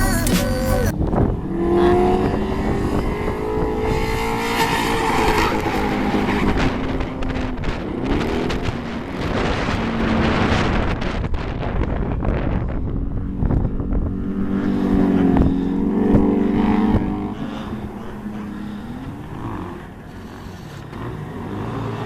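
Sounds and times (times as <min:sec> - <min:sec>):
car engine revving: 0:00.0 - 0:12.0, 0:12.8 - 0:22.0.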